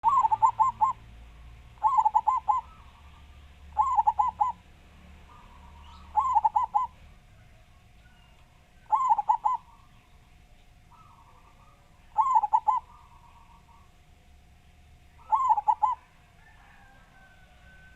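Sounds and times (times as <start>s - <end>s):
dove cooing: 0.0s - 1.1s, 1.8s - 4.7s, 5.3s - 10.1s, 10.9s - 14.0s, 15.2s - 17.9s.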